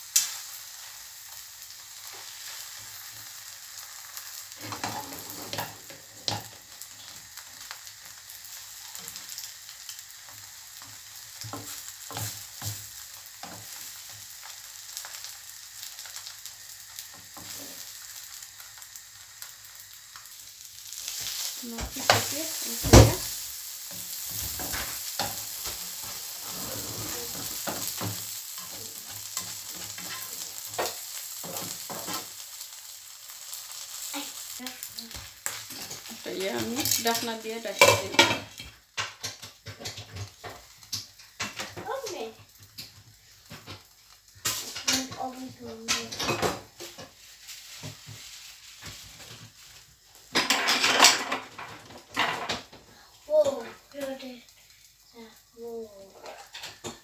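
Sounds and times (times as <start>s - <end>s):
flatbread sizzling in a pan: 0.0s - 57.0s.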